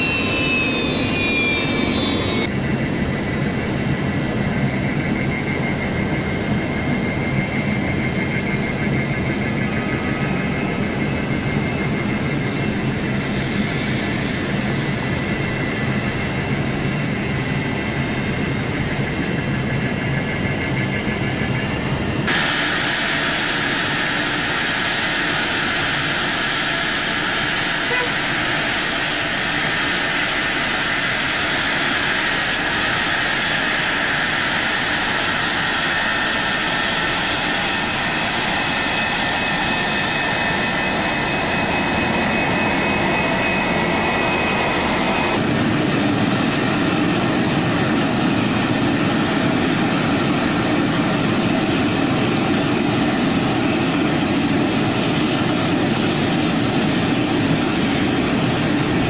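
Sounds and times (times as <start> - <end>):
high engine whine: 0.0 - 59.0
jet engines roaring: 0.0 - 59.0.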